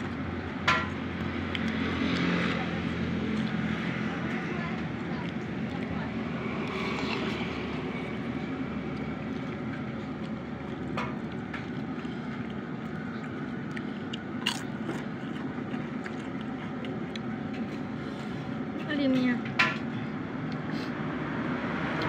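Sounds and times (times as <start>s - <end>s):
steady background hum: 0.0s - 21.9s.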